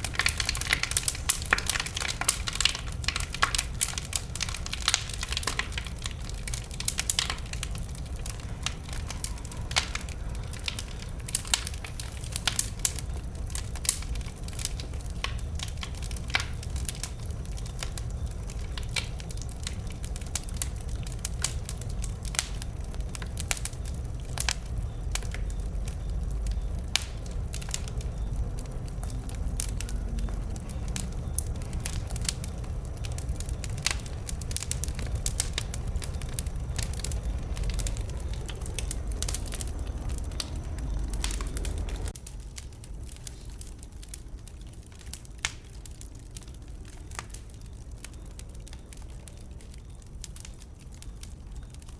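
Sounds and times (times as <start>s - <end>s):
bonfire crackling and popping: 0.0s - 51.9s
low rumble of flame: 0.0s - 51.9s.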